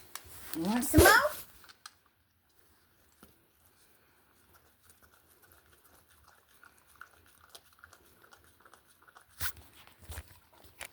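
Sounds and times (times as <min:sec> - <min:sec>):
dog licking and eating: 0:01.6 - 0:10.9.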